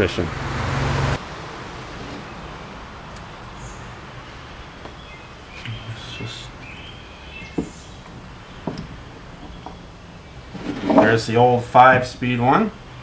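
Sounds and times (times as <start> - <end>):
steady background hum: 1.2 - 13.0
bird chirping: 2.2 - 13.0.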